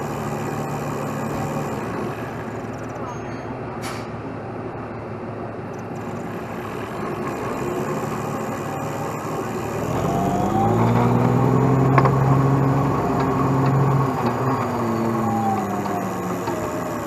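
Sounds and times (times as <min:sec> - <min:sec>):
truck diesel engine revving: 0:00.0 - 0:03.0, 0:05.8 - 0:17.0.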